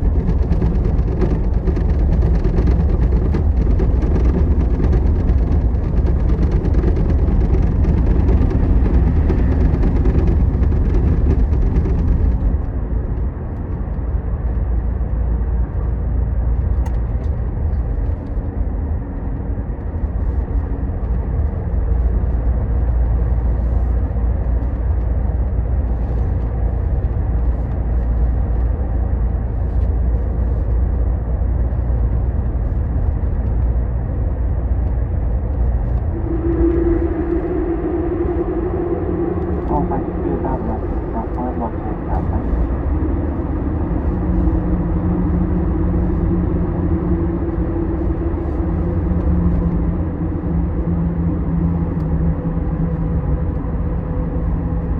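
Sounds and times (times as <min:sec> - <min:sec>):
bus engine and tyre rumble: 0:00.0 - 0:54.9.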